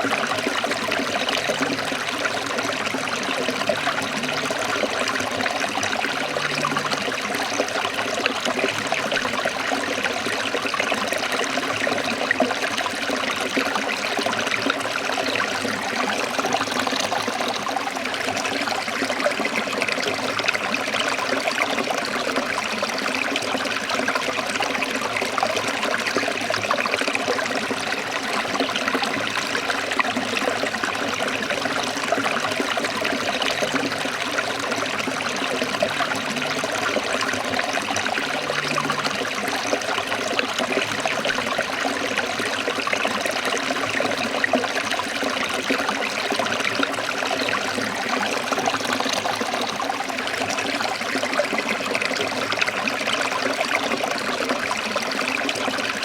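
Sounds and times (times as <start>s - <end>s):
stream splashing over rocks: 0.0s - 56.0s.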